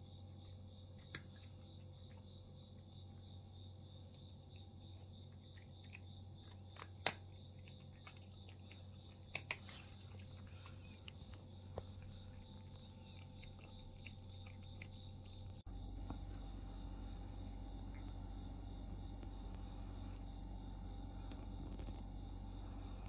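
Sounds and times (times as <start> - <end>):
low hum: 0.0 - 23.0
cat crunching dry kibble: 0.3 - 19.5.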